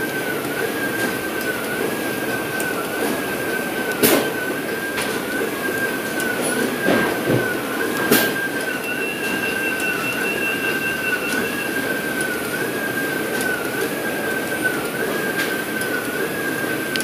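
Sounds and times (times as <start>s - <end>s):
fainter higher whine: 0.0s - 17.0s
printing press whine: 0.0s - 17.0s.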